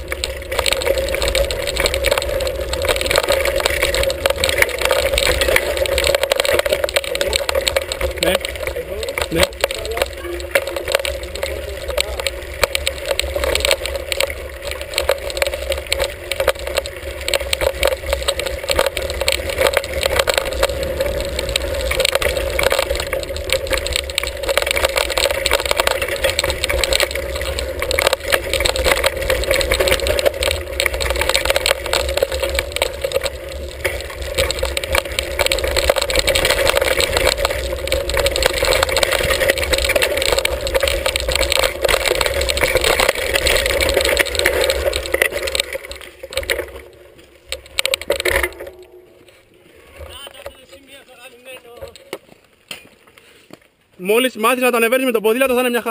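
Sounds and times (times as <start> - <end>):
bike rattling clicks: 0.0 - 49.3
wind and tyre rumble: 0.0 - 55.9.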